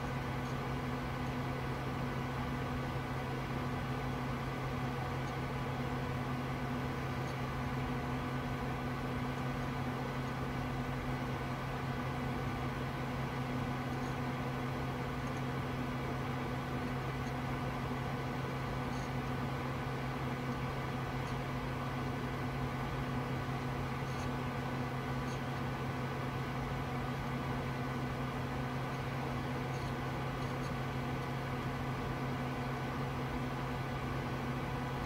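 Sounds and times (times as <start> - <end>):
computer cooling fans humming: 0.0 - 35.0.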